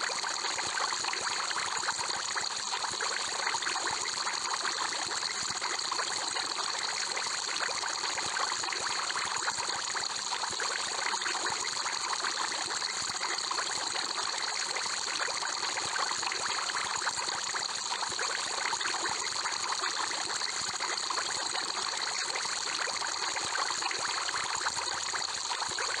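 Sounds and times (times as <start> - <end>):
aquarium air bubbler bubbling: 0.0 - 26.0.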